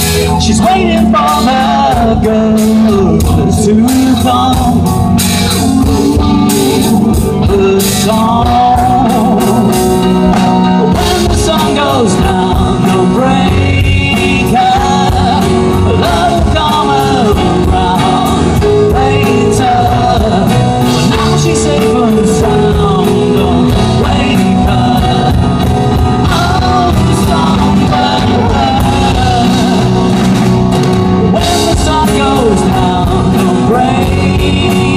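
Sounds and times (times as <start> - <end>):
live rock band playing: 0.0 - 34.9.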